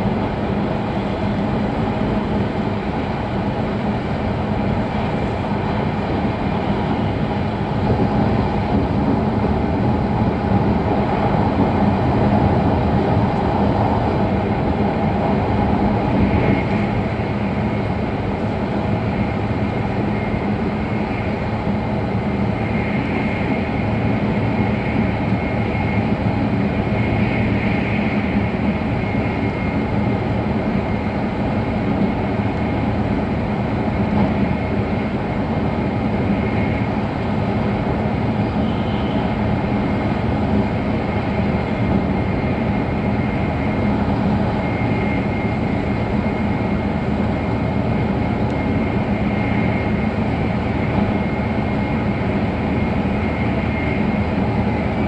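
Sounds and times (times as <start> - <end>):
train interior rumble and rush: 0.0 - 55.0.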